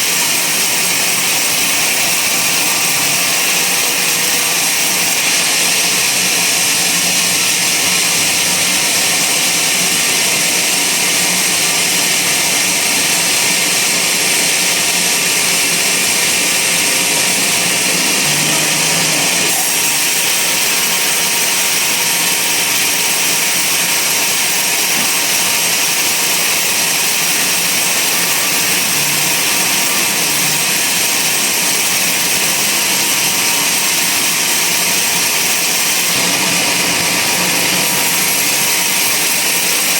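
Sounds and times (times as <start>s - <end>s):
band saw hissing: 0.0s - 39.9s.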